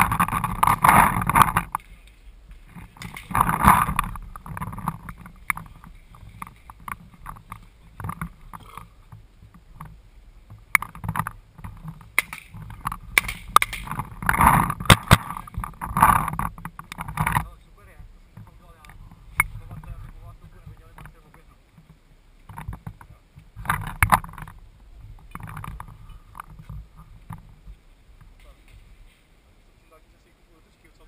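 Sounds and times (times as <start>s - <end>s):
gun and gear rattling: 0.0s - 17.6s, 18.4s - 27.6s.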